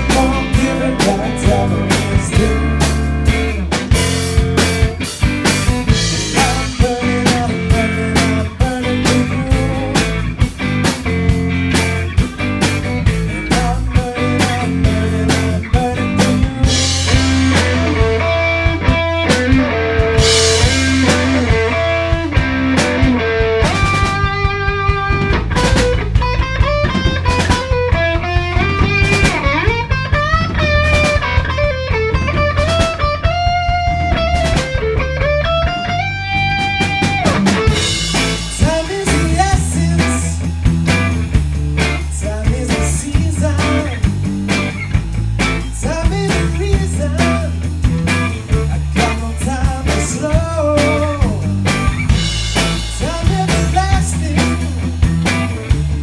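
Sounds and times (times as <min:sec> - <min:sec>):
bass guitar: 0:00.0 - 0:56.0
drums: 0:00.0 - 0:56.0
lead guitar with bending notes: 0:00.0 - 0:56.0.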